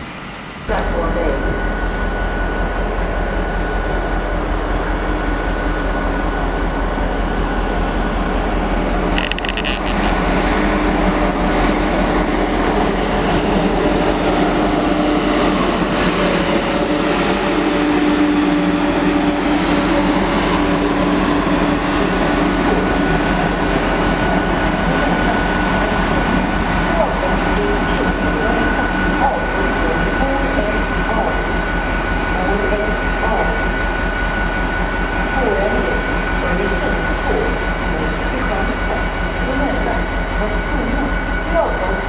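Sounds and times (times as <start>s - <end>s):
electric train passing: 0.0s - 42.0s.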